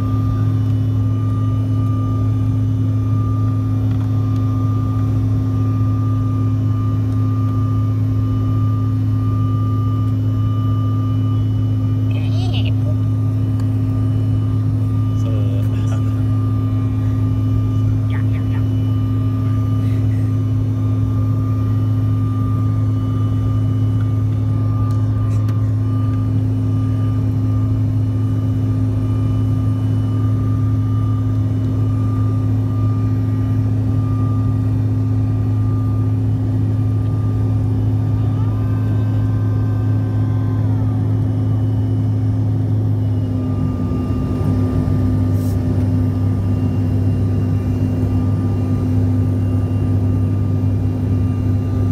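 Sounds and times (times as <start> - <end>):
airplane cabin engine drone: 0.0 - 51.9.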